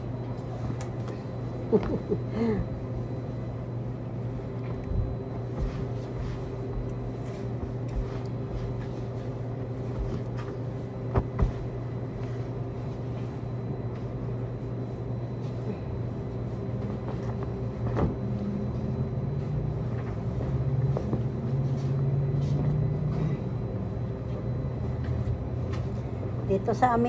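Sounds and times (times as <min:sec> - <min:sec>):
washing machines and dryers humming: 0:00.0 - 0:27.0.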